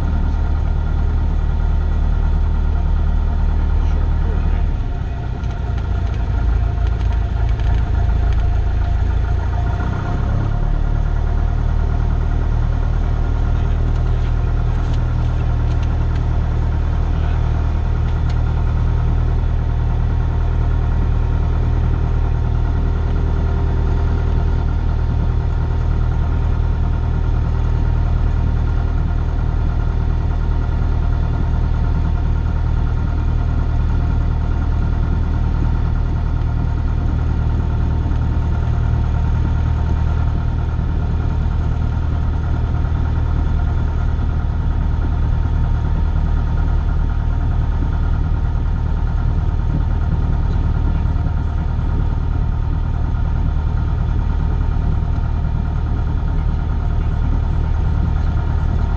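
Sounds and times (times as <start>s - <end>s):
airplane engine and propeller drone: 0.0s - 58.9s.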